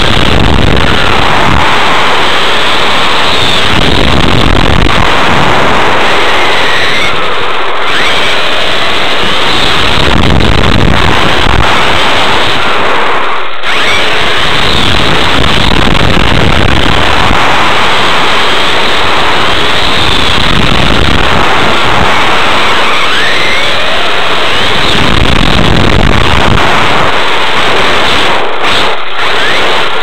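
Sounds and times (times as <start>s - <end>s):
electric motor whine: 0.0s - 30.0s
rc car driving on asphalt: 0.0s - 30.0s.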